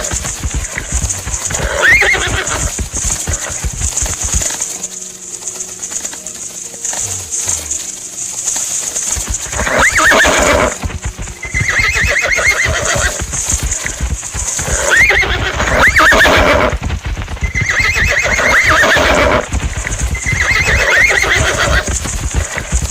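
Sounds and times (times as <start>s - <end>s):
horses whinnying: 0.0s - 6.2s, 9.0s - 22.9s
horses galloping hoofbeats: 0.0s - 22.9s.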